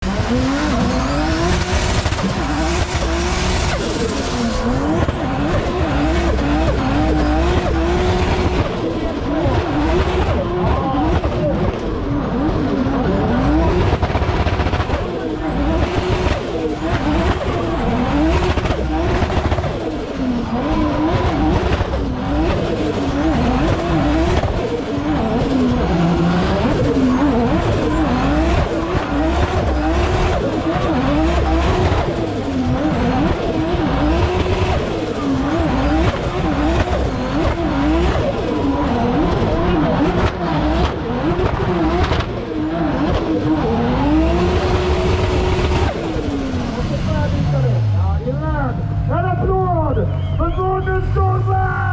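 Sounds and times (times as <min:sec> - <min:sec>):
turbocharged engine revving: 0:00.0 - 0:51.9.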